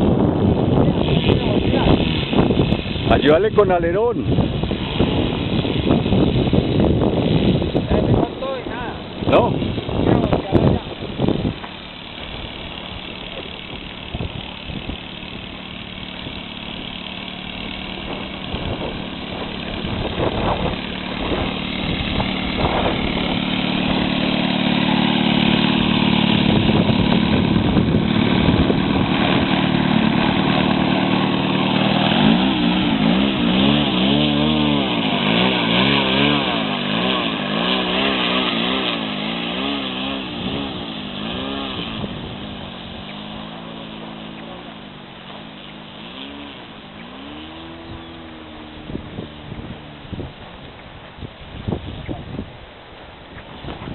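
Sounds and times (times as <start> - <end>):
model plane engine running: 0.0 - 52.4.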